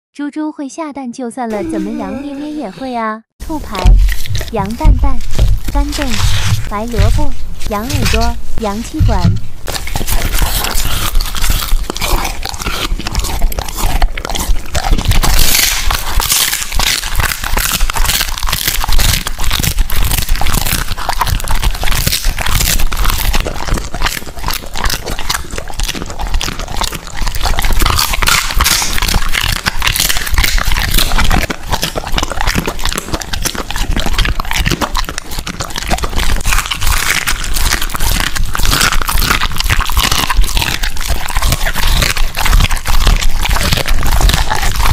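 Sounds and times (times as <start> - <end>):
dog chewing and crunching meat: 3.4 - 44.9.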